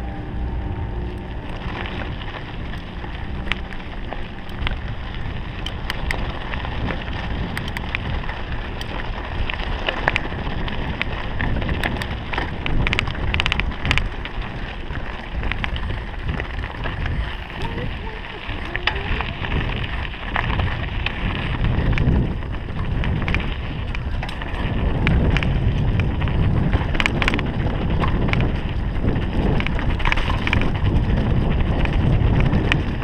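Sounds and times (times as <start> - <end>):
bike rattling over rough ground: 0.0 - 33.0
tyre and wind noise: 0.0 - 33.0.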